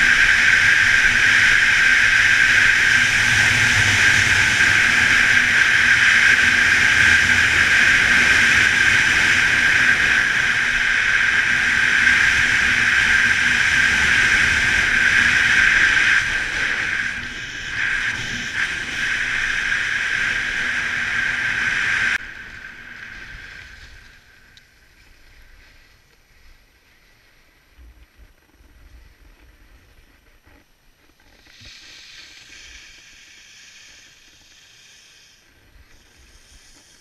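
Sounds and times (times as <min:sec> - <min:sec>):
wind rushing over camera: 0:00.0 - 0:34.2
snowboard sliding over snow: 0:00.0 - 0:37.0.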